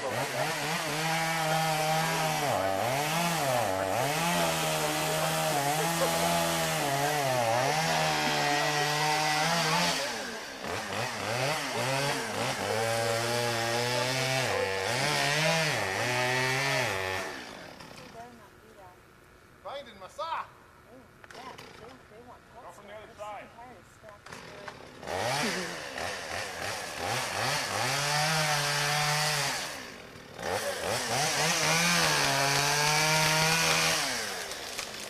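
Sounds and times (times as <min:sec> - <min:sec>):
chainsaw cutting wood: 0:00.0 - 0:19.6, 0:21.2 - 0:22.1, 0:24.1 - 0:35.0.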